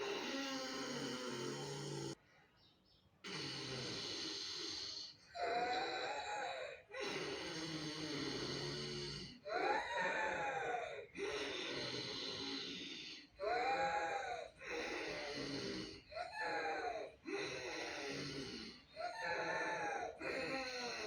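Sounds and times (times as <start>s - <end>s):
woman breathing with throat rasp: 0.0s - 2.5s, 3.3s - 21.0s.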